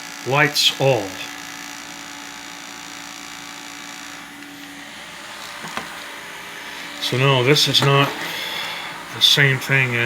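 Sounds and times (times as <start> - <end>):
small fan running: 0.3 - 10.0.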